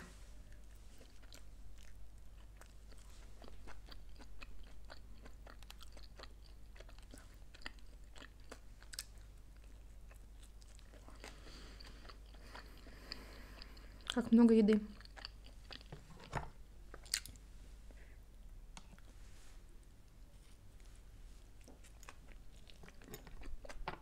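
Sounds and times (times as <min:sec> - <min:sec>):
person chewing: 0:00.5 - 0:14.3, 0:14.9 - 0:16.3, 0:16.9 - 0:17.4, 0:20.1 - 0:23.9.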